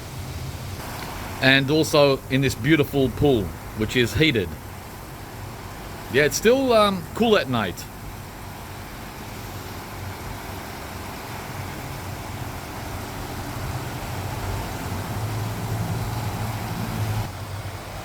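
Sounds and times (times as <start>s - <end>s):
outdoor background rumble and hiss: 0.0s - 18.0s.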